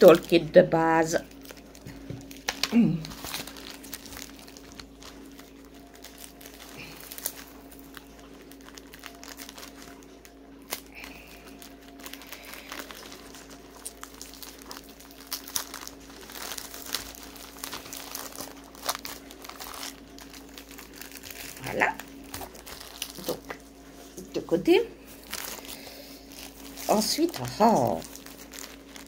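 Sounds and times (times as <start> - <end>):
plastic packaging crinkling: 0.0 - 29.0
steady low hum: 0.0 - 29.0.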